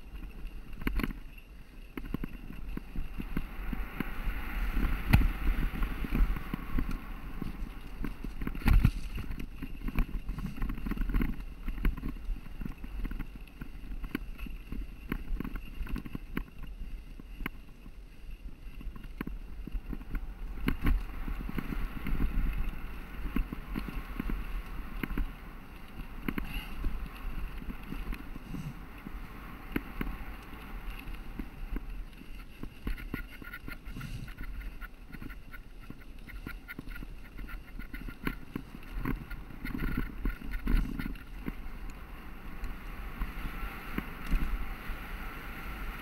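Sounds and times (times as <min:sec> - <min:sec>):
bike rattles and knocks: 0:00.0 - 0:41.9
bike tyres rumbling on dirt: 0:00.0 - 0:46.0.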